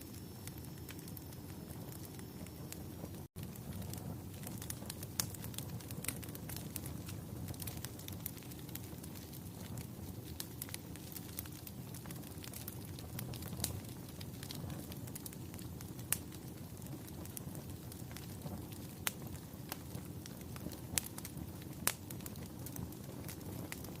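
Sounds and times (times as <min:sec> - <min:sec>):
fire crackling and popping: 0:00.0 - 0:24.0
low rumble of burning: 0:00.0 - 0:24.0.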